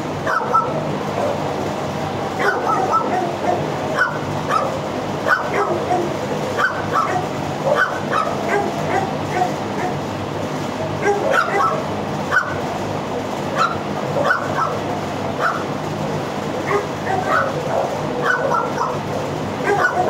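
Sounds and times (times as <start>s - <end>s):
dogs barking and yipping: 0.2s - 1.6s, 2.3s - 10.2s, 10.9s - 12.8s, 13.5s - 15.9s, 16.5s - 20.0s.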